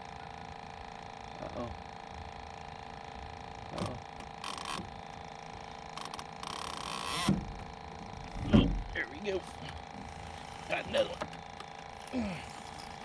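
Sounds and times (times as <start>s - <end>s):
steady hum: 0.0s - 13.0s
fishing reel buzzing: 0.5s - 8.4s, 9.4s - 13.0s.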